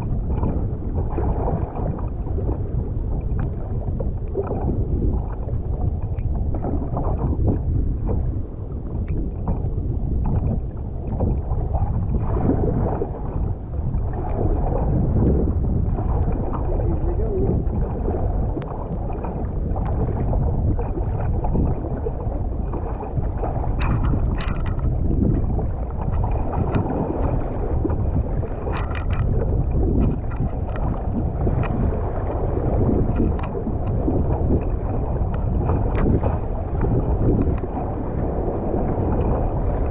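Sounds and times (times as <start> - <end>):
water rushing around kayak: 0.0 - 39.9
water splashes: 0.0 - 39.9
wind rumbling on microphone: 0.0 - 39.9.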